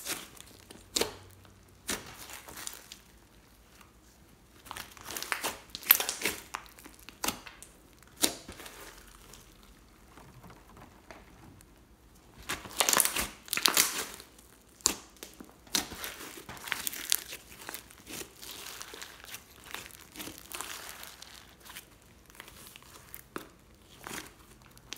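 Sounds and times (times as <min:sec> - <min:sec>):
slime squishing with clicks: 0:00.0 - 0:10.2, 0:11.0 - 0:24.9.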